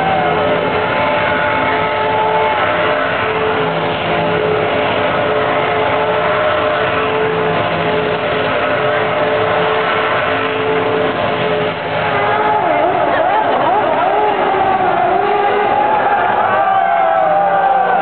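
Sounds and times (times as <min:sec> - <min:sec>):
racing car engine at high revs: 0:00.0 - 0:18.0.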